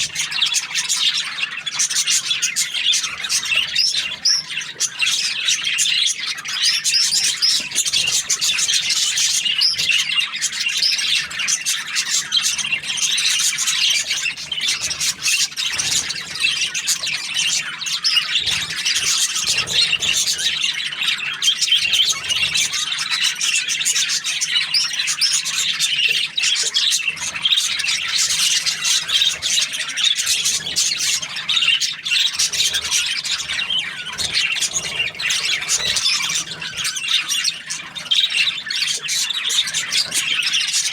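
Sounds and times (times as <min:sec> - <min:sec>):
budgerigars chirping and squawking: 0:00.0 - 0:40.9.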